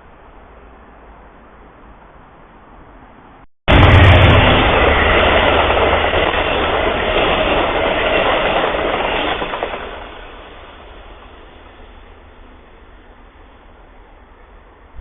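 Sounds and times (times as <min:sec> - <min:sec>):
train passing on rails: 0:00.0 - 0:15.0.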